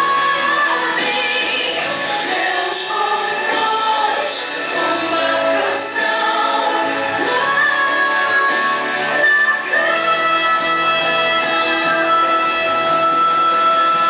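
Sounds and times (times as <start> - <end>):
group of voices singing: 0.0 - 14.0.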